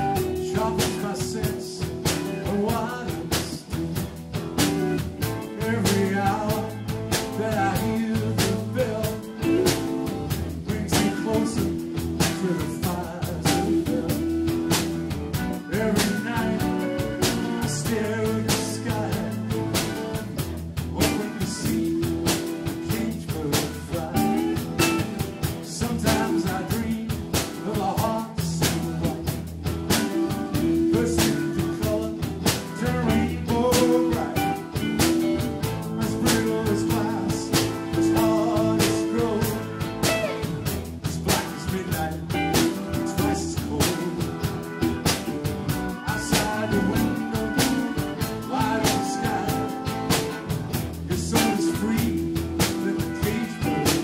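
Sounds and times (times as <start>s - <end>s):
drum kit with cymbals: 0.0s - 54.0s
electric guitar: 0.0s - 54.0s.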